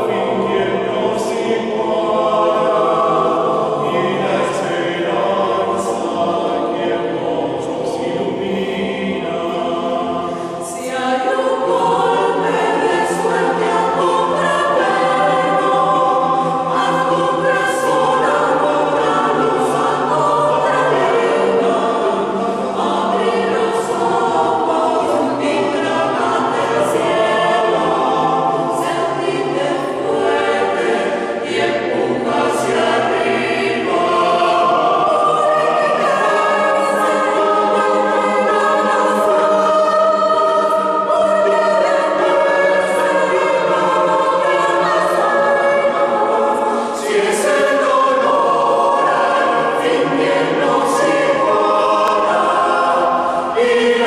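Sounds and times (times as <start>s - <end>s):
mixed choir singing a cappella: 0.0s - 54.0s.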